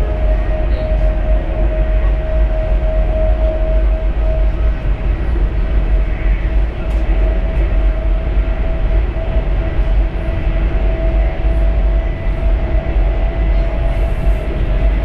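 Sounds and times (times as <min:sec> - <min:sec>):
train rumbling with whine: 0:00.0 - 0:15.0.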